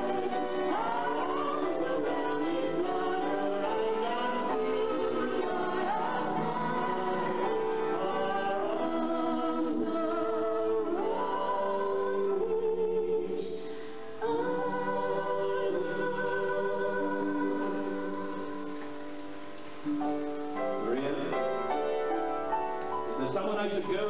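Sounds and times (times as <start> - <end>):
man and woman singing duet: 0.0 - 19.3.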